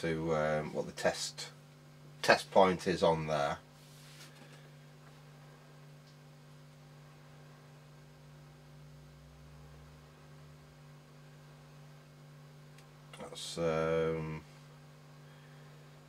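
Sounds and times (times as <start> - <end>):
faint electrical mains hum: 0.0 - 16.0.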